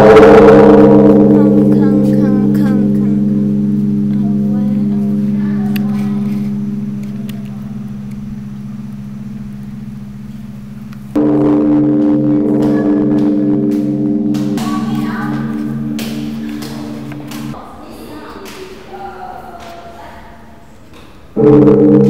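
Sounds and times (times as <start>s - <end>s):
large bell ringing: 0.0s - 17.7s, 21.4s - 22.0s.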